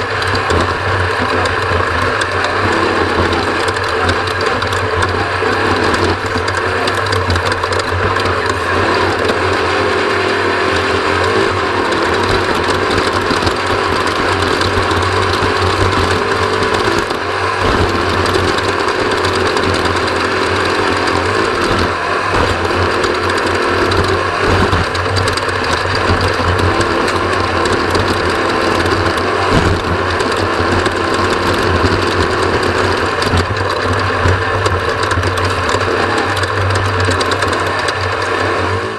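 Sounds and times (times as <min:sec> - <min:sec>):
race vehicle engine running hard: 0:00.0 - 0:38.9.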